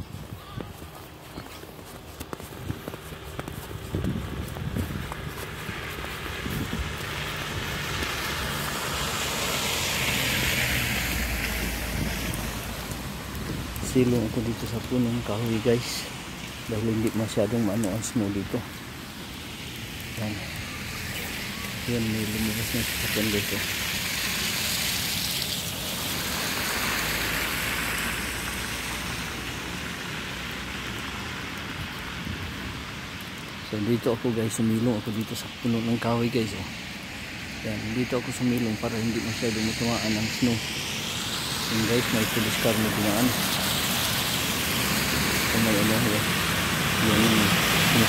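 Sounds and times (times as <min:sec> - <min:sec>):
tyres hissing through slush: 0:05.2 - 0:13.1, 0:13.8 - 0:31.2, 0:34.6 - 0:48.0.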